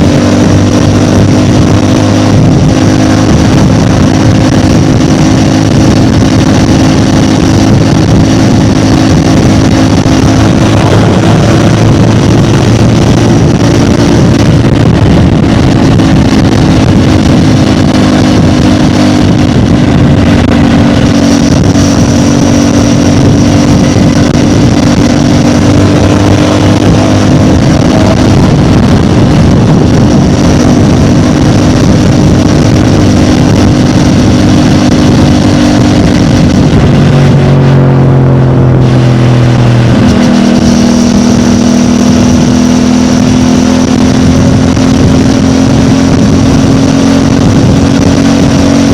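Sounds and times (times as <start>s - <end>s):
motorcycle engine droning: 0.0s - 48.9s.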